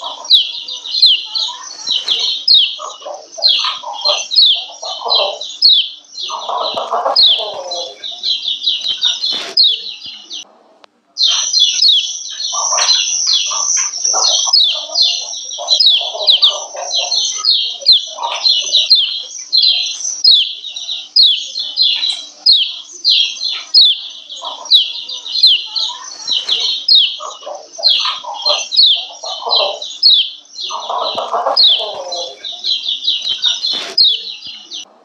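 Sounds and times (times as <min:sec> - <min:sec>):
bird chirping call: 0:00.0 - 0:10.5, 0:11.2 - 0:34.9
softer lower bird chattering: 0:00.0 - 0:10.6, 0:11.2 - 0:35.0.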